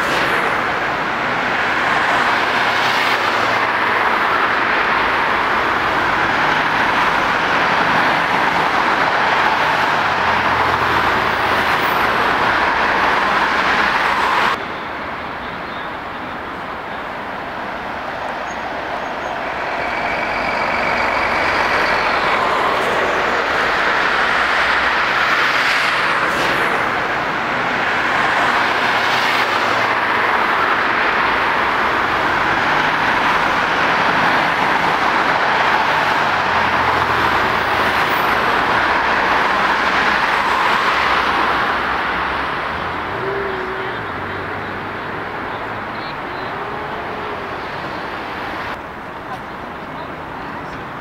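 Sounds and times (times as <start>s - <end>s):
cars and buses passing: 0.0s - 51.0s.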